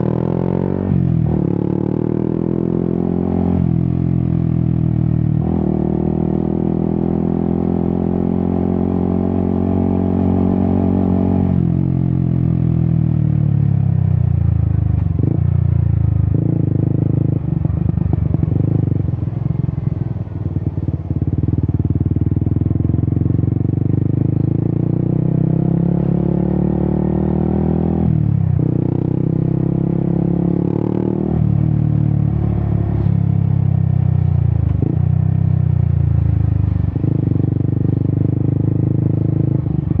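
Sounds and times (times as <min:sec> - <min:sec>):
motorcycle engine revving: 0:00.0 - 0:14.0, 0:15.0 - 0:40.0.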